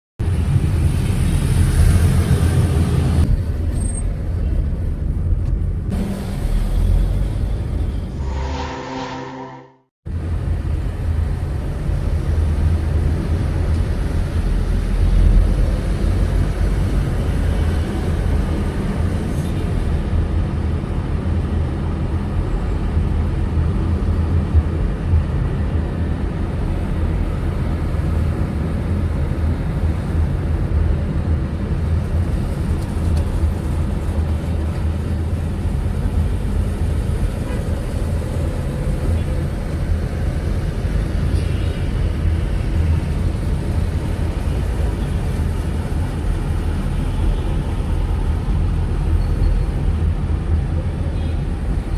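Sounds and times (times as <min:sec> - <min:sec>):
car engine and road noise: 0:00.2 - 0:51.9.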